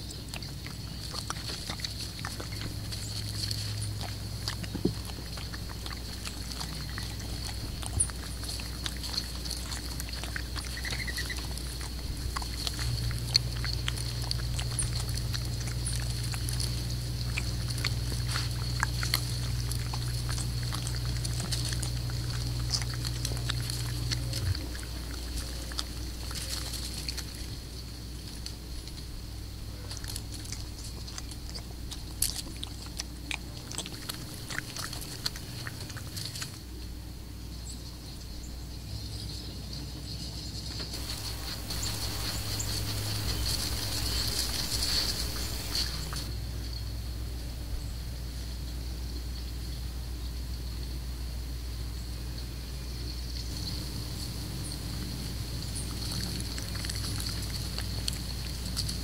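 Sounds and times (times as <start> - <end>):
bear eating with clicks and knocks: 0.0 - 37.0, 39.2 - 46.4, 53.3 - 59.0
steady low hum: 0.0 - 59.0.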